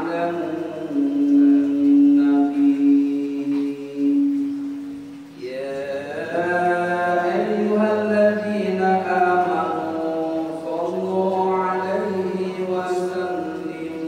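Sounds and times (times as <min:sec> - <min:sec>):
man chanting through a microphone: 0:00.0 - 0:04.4, 0:05.4 - 0:14.0.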